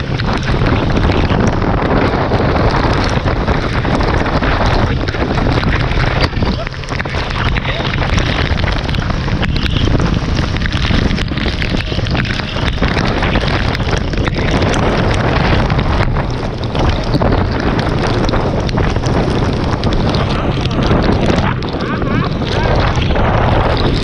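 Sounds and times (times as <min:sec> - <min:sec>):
rain ticking: 0:00.0 - 0:24.0
wind buffeting the microphone: 0:00.0 - 0:24.0.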